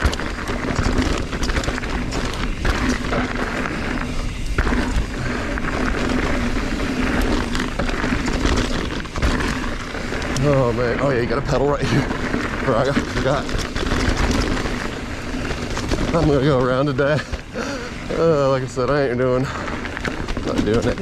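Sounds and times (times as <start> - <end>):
bike rattling and knocking: 0.0 - 21.0
bike tyres rolling over dirt: 0.0 - 21.0
steady low rumble: 0.0 - 21.0.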